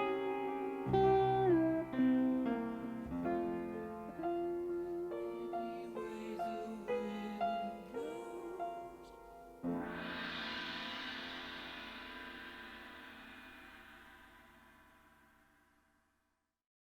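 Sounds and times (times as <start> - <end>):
soft piano melody: 0.0 - 14.5.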